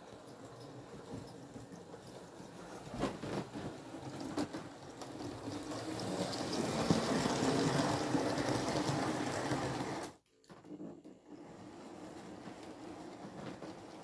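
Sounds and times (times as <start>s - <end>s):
model train wheels clattering: 0.0s - 14.0s.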